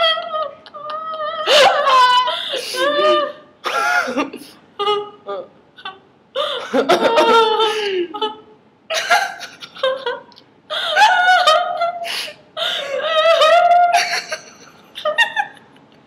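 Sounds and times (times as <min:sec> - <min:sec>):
young women laughing: 0:00.0 - 0:16.0.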